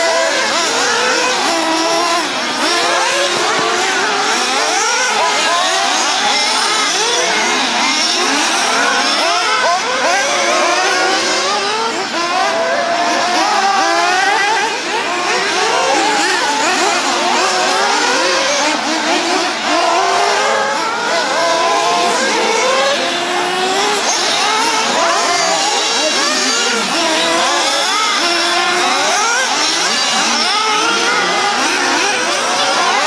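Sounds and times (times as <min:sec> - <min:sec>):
rc buggy engines whining and revving: 0:00.0 - 0:33.0.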